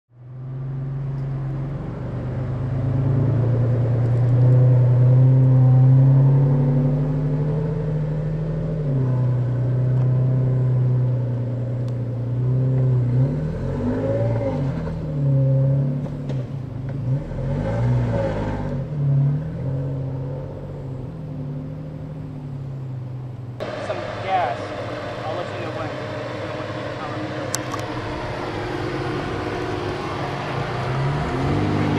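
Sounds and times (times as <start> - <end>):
off-road engine pulling in low gear: 0.5 - 22.8, 23.6 - 31.9.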